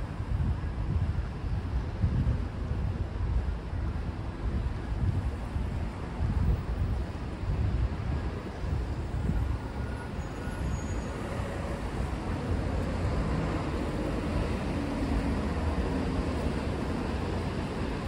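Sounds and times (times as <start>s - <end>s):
traffic rumble: 0.1s - 18.0s.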